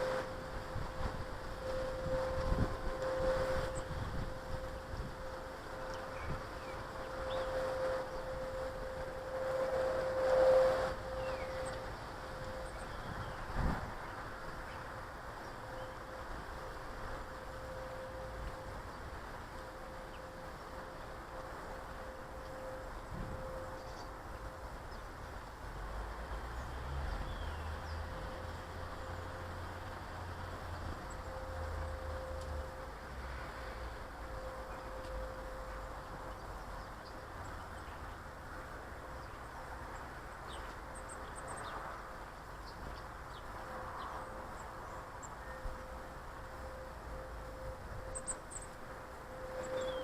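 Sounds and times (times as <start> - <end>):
outdoor background hiss: 0.0 - 50.0
thin steady hum: 0.0 - 50.0.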